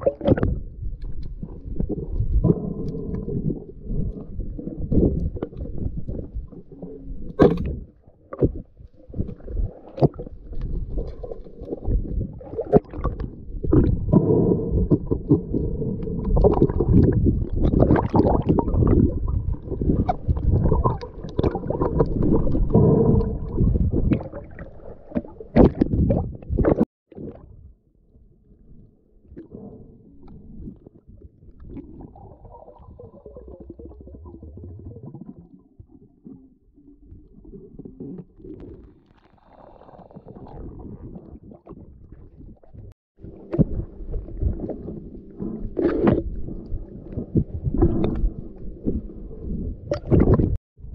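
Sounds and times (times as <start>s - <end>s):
low underwater rumble: 0.0s - 50.9s
muffled churning water: 0.0s - 50.9s.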